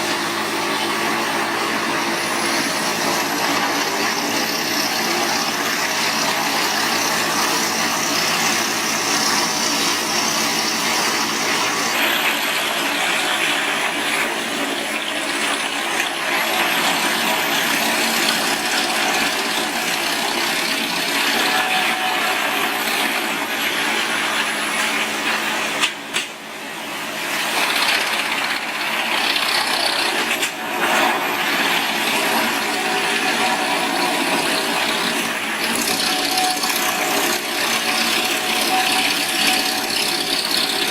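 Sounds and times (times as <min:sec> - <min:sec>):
wood grinding: 0:00.0 - 0:25.8, 0:27.1 - 0:40.9
wood chippers running: 0:00.0 - 0:40.9.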